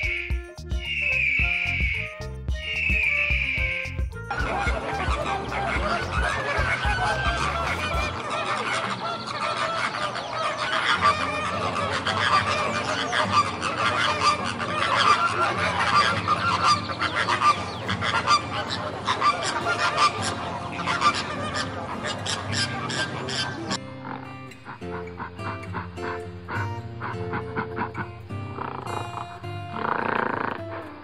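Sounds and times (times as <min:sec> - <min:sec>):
flock of birds calling: 0:00.0 - 0:31.0.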